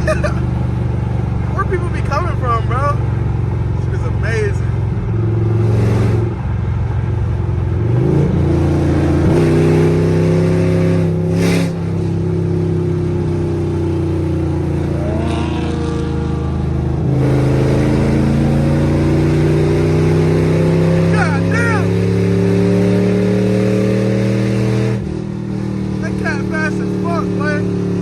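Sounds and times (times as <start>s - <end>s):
car engine and exhaust: 0.0s - 28.0s.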